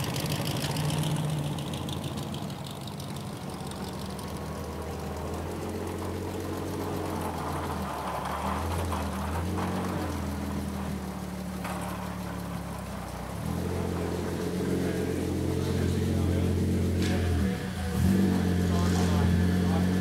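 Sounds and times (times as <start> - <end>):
car engine at low revs: 0.0 - 20.0.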